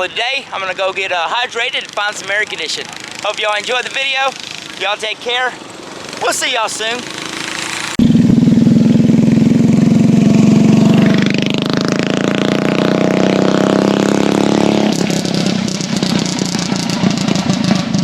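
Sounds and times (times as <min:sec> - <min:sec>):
small engine running loud: 0:00.9 - 0:18.0.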